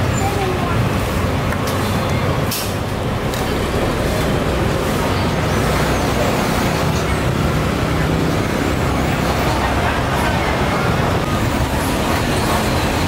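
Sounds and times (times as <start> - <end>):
road traffic: 0.0 - 13.0
vehicle engines running: 0.0 - 13.0.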